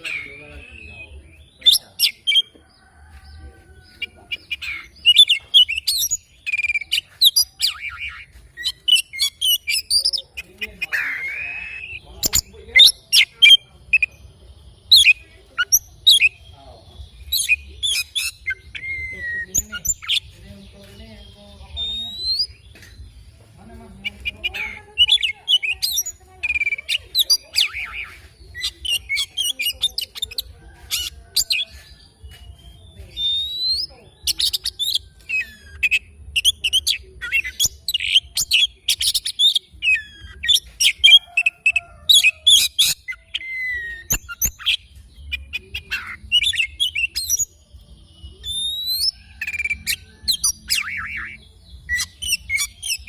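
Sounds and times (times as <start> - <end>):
bird singing whistles and chatter: 0.0 - 53.0.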